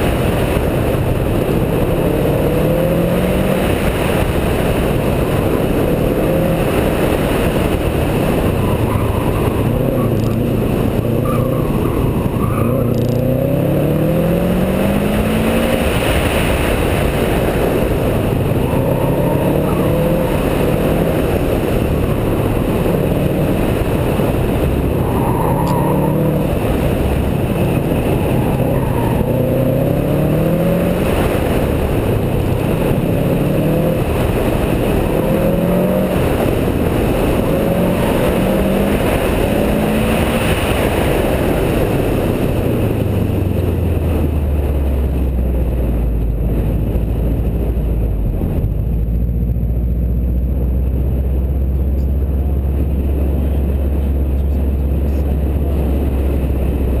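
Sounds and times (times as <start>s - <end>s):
car engine revving: 0.0s - 57.0s
road noise rushing: 0.0s - 57.0s.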